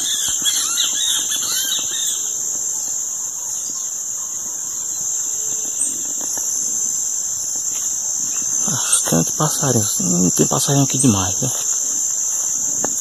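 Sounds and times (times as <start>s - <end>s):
high-pitched insect drone: 0.0s - 13.0s
songbirds chirping: 0.0s - 13.0s.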